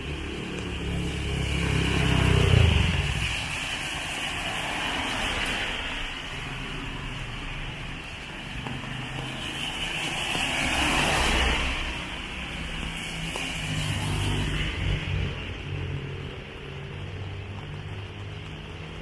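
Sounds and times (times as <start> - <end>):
rain: 0.0 - 19.0
tyres hissing on wet road: 0.0 - 19.0.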